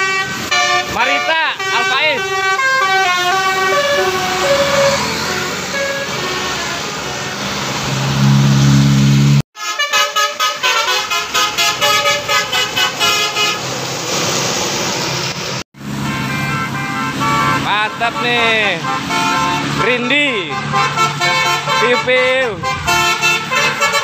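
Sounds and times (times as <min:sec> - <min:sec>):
deep steady vehicle horn: 0:00.0 - 0:07.4, 0:09.3 - 0:13.6, 0:15.9 - 0:24.0
multi-tone bus horn tune: 0:00.0 - 0:07.6, 0:08.2 - 0:13.7, 0:15.8 - 0:24.0
road traffic: 0:00.0 - 0:24.0.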